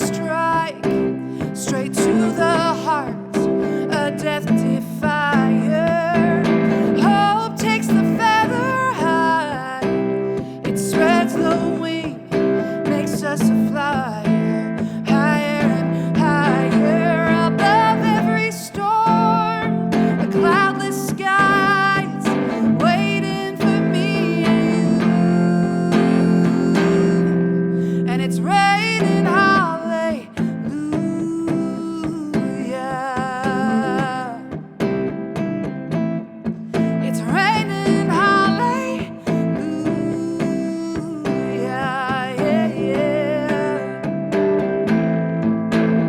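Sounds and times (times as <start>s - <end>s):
acoustic guitar playing: 0.0s - 46.0s
woman singing: 0.0s - 46.0s.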